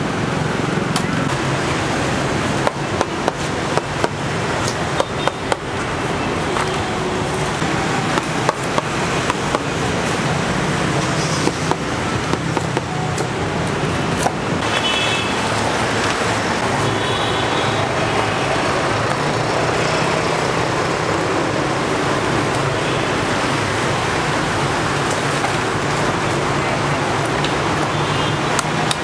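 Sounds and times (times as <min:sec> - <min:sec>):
roadside traffic hum: 0:00.0 - 0:29.0.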